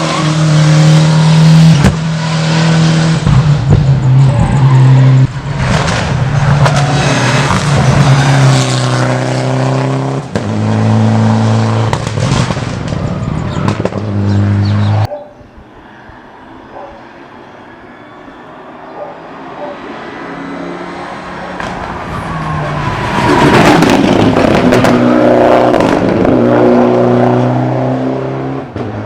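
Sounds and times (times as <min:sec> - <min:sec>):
rally car engine at high revs: 0:00.0 - 0:15.1, 0:18.9 - 0:29.0.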